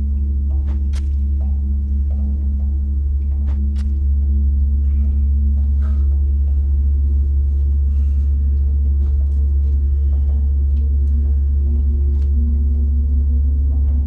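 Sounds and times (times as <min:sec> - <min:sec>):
faint held higher tones: 0:00.0 - 0:14.0
low droning tone: 0:00.0 - 0:14.0.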